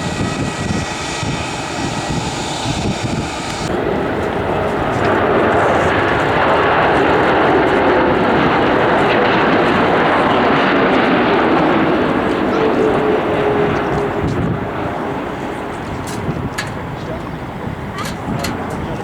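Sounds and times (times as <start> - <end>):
airliner engine noise: 0.0 - 19.0.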